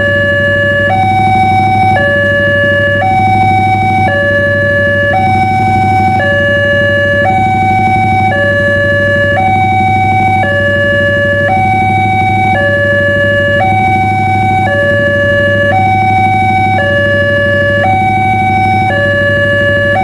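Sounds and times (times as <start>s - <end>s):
level crossing warning alarm: 0.0s - 20.0s.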